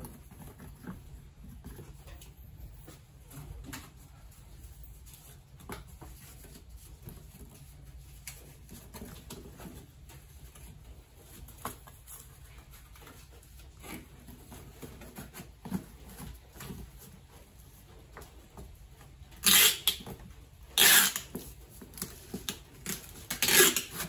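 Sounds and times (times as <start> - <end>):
bubble wrap and cardboard rustling: 0.0 - 24.0.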